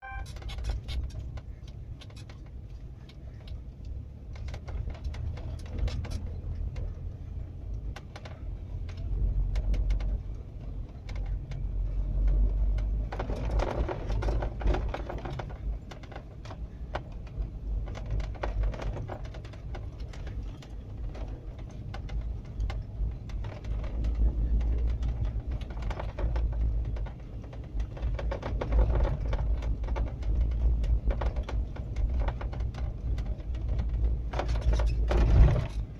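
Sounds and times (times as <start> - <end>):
road and engine rumble: 0.0 - 35.9.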